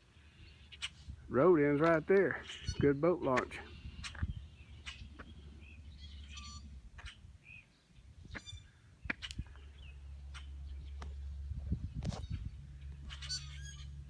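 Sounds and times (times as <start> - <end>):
birds chirping and calling: 0.0 - 14.0
low steady rumble: 0.0 - 14.0.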